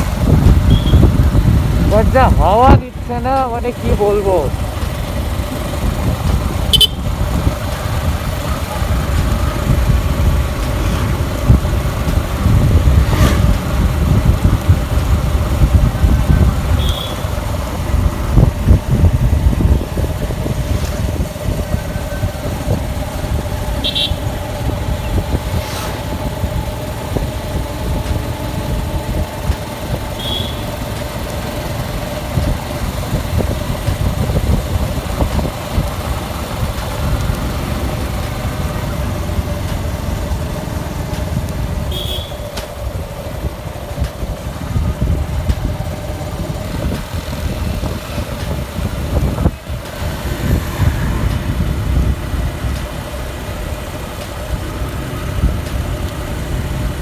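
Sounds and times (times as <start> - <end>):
wind rumble on microphone: 0.0 - 30.2, 31.0 - 57.0
motorcycle engine running: 0.0 - 57.0.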